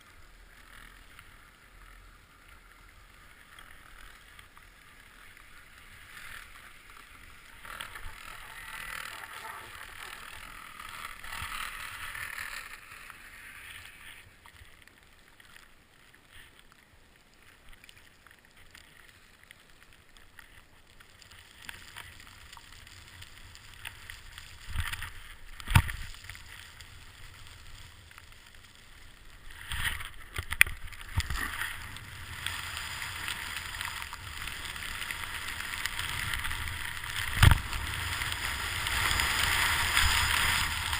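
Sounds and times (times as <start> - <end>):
skis scraping over snow: 0.0 - 14.5, 20.6 - 40.9.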